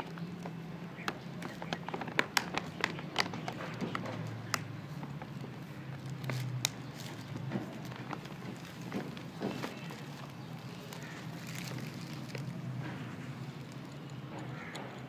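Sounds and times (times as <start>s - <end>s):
cat crunching dry kibble: 0.0s - 14.3s.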